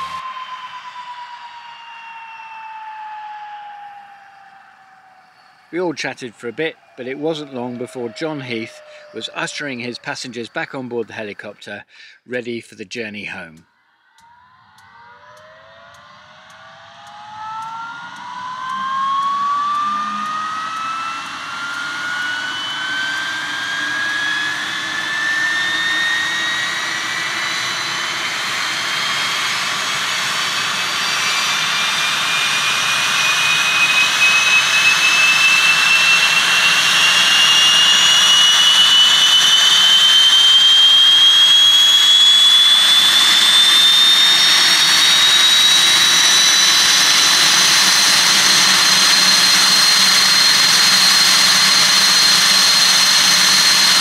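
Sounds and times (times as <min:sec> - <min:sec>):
helicopter turbine engine starting: 0:00.0 - 0:12.4, 0:14.2 - 0:54.0.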